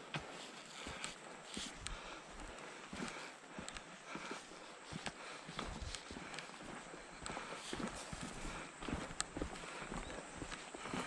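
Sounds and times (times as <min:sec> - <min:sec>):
boots footsteps on trail: 0:00.0 - 0:11.0.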